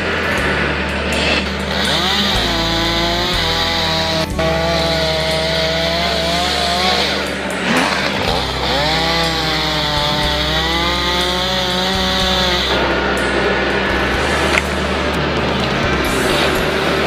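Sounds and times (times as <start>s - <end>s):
background music: 0.0s - 17.0s
chainsaw cutting wood: 0.0s - 17.0s.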